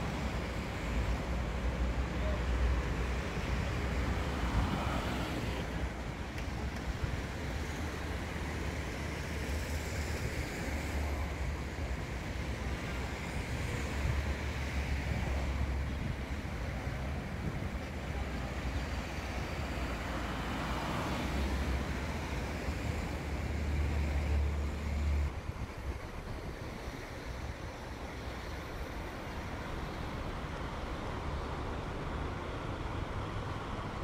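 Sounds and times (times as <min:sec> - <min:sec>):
cars driving on snowy road: 0:00.0 - 0:34.0.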